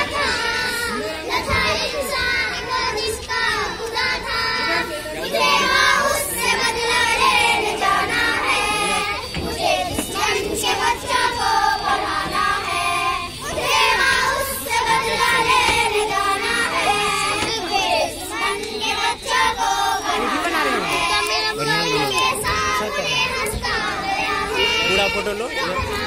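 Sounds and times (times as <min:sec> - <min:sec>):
girls singing together: 0:00.0 - 0:26.0.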